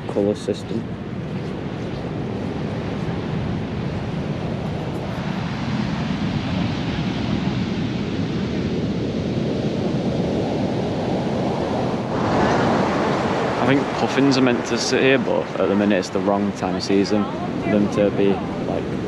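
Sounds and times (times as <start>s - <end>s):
surf breaking on shore: 1.6s - 19.0s.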